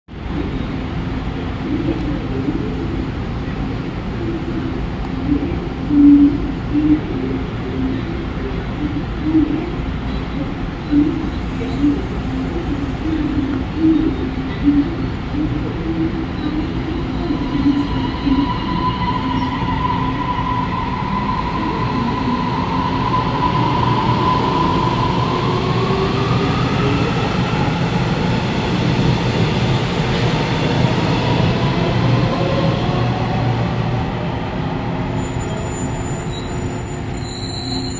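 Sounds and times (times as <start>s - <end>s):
train wheels rumbling on track: 0.1s - 37.9s.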